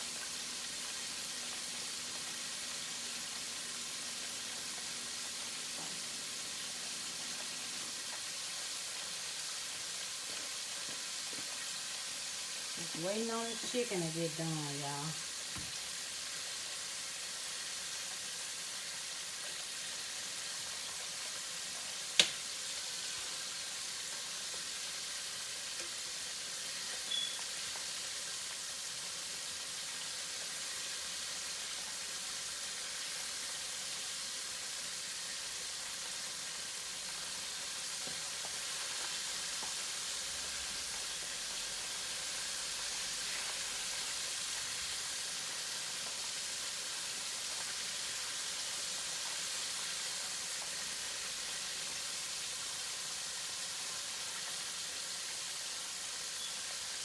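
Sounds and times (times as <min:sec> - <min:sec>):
chicken wings frying: 0:00.0 - 0:57.0.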